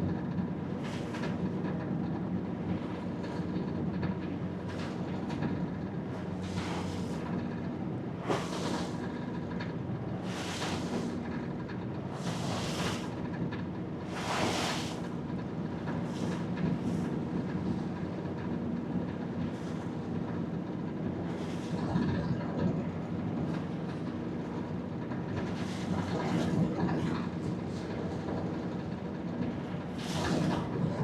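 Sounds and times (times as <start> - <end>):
boat engine humming: 0.5 - 29.0.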